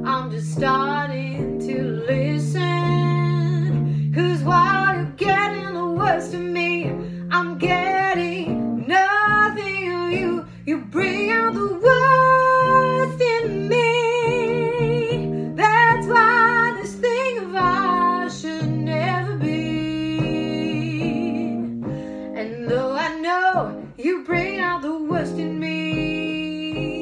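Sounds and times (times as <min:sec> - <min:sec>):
woman singing: 0:00.0 - 0:27.0.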